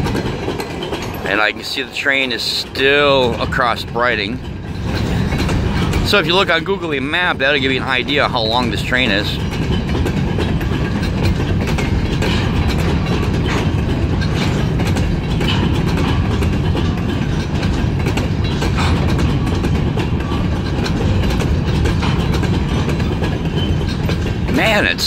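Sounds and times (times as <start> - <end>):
freight train rolling past: 0.0 - 25.0
wheels clicking and clacking on rail: 0.0 - 25.0.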